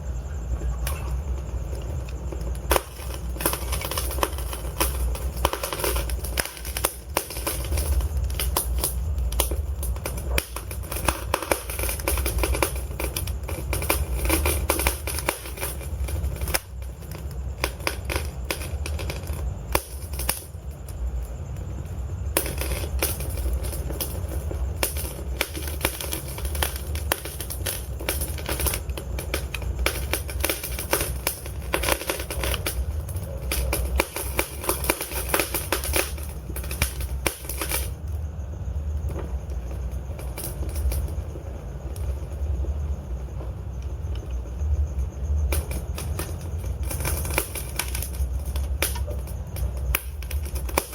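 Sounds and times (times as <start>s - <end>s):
wood fire crackling and popping: 0.6s - 50.9s.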